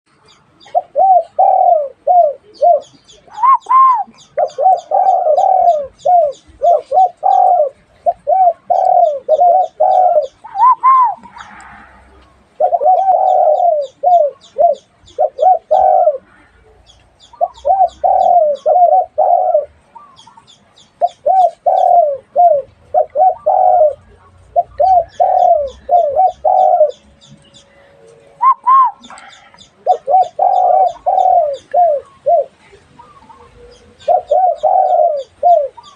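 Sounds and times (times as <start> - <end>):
dove cooing: 0.6 - 27.1, 28.1 - 35.9.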